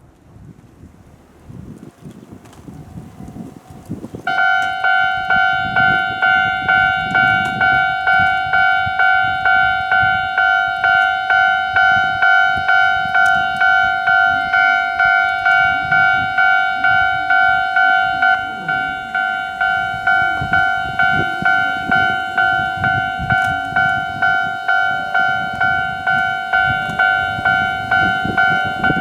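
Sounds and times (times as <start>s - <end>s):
low wind rumble: 0.0s - 29.0s
level crossing warning bell: 1.2s - 29.0s.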